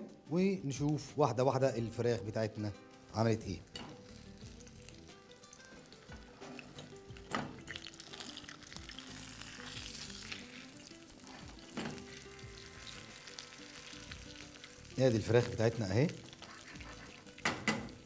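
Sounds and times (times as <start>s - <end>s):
oil sizzling in a pan: 2.8s - 18.0s.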